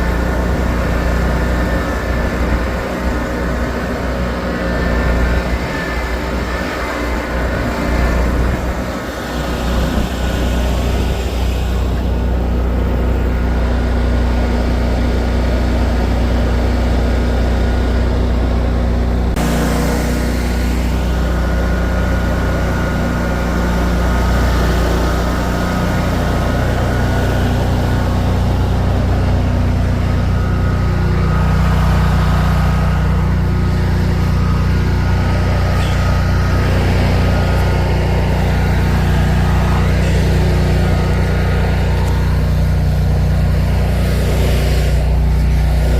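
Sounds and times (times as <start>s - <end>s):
vehicle engine under load: 0.0s - 45.9s.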